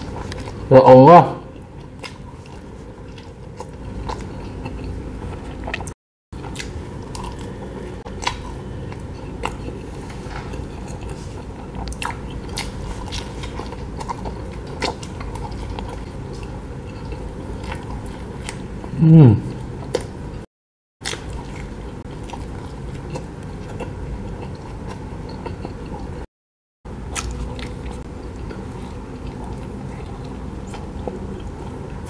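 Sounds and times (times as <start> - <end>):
chewing and biting pizza: 1.4 - 20.1, 21.0 - 26.3, 27.0 - 32.0.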